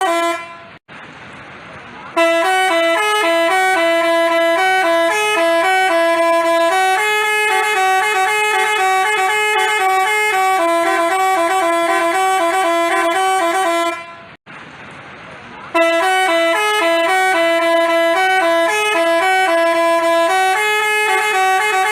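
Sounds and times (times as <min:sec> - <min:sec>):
multi-tone bus horn melody: 0:00.0 - 0:00.8, 0:02.1 - 0:14.4, 0:15.7 - 0:21.9.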